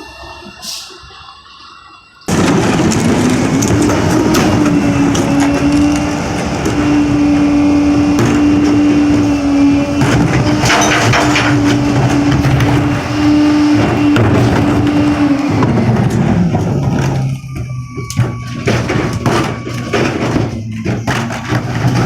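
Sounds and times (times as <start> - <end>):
garbage truck engine humming: 0.0 - 22.0
bulky items cracking and banging: 2.3 - 22.0.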